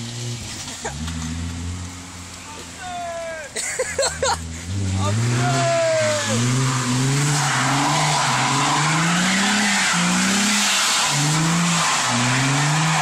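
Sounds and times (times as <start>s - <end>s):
car engine revving: 0.0s - 13.0s
tyres skidding on wet road: 0.0s - 13.0s.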